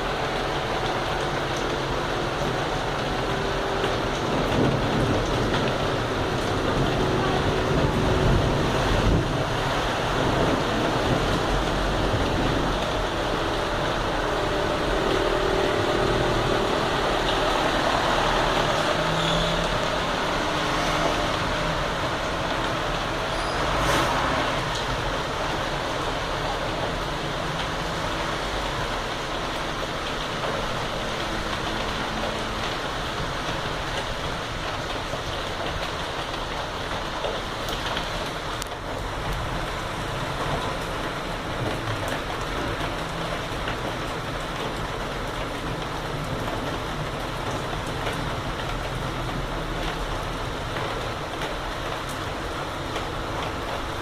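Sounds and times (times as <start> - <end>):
vehicle engine humming: 0.0 - 44.3
heavy rain falling: 0.0 - 54.0
traffic on wet road: 0.0 - 54.0.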